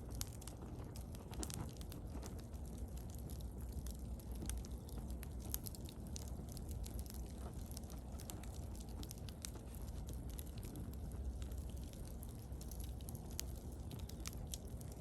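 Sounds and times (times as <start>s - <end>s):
bonfire crackling and popping: 0.0s - 15.0s
low rumble of flames: 0.0s - 15.0s.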